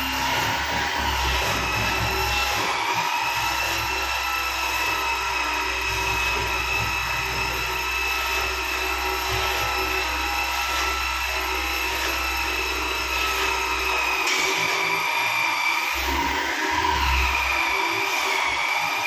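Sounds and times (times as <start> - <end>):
power tool motor whining: 0.0 - 19.0.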